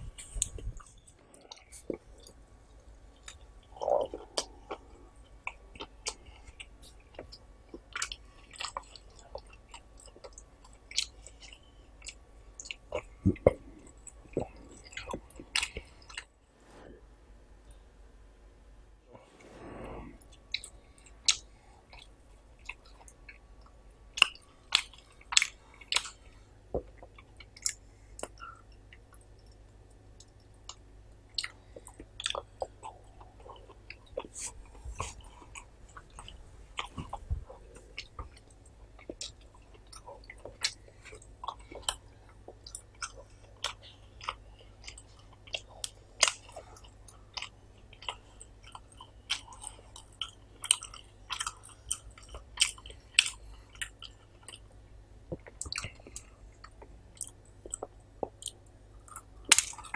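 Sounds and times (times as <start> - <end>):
chewing food: 0.2 - 16.3, 20.2 - 59.9.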